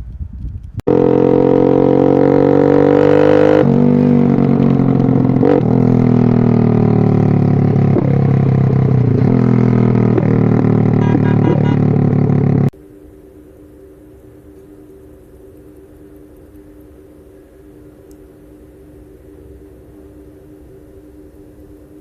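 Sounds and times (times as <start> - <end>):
loud droning tone: 0.9 - 22.0.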